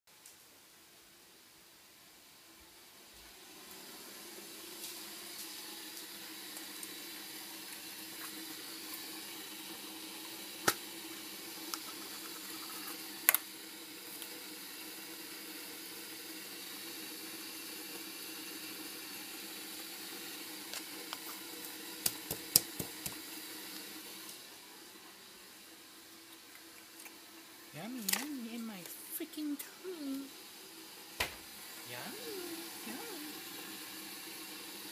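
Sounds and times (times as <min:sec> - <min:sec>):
steady hiss: 0:00.1 - 0:34.9.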